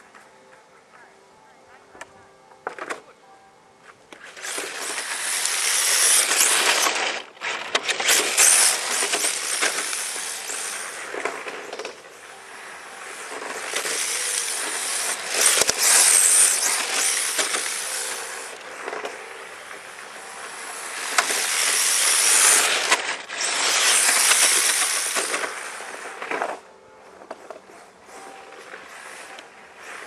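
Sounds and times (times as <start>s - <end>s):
rc car drivetrain whirring: 4.1s - 30.0s
tyres sliding on asphalt: 4.2s - 30.0s.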